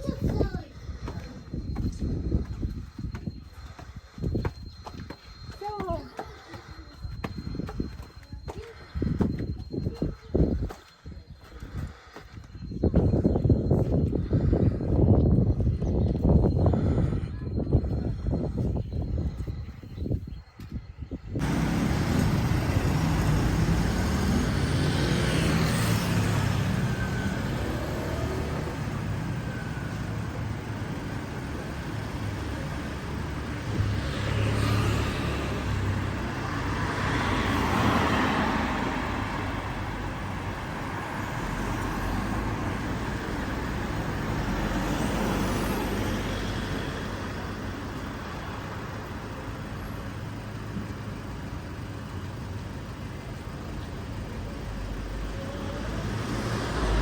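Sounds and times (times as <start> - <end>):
vehicle engines: 0.0 - 57.0.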